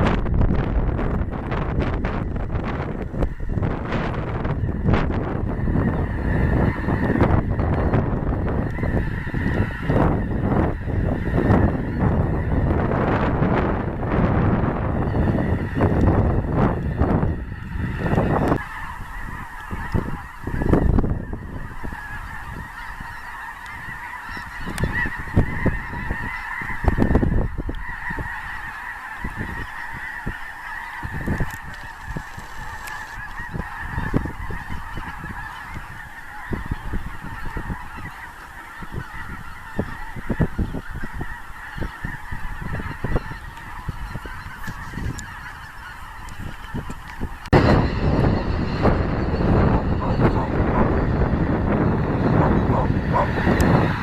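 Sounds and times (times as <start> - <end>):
geese honking: 0.0 - 54.0
wind buffeting microphone: 0.0 - 54.0.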